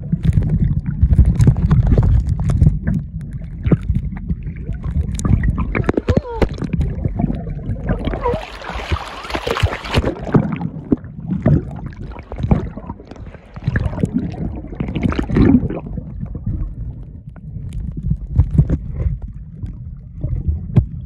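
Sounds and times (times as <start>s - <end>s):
muffled underwater rushing: 0.0s - 21.0s
underwater knocks and thumps: 0.0s - 21.0s.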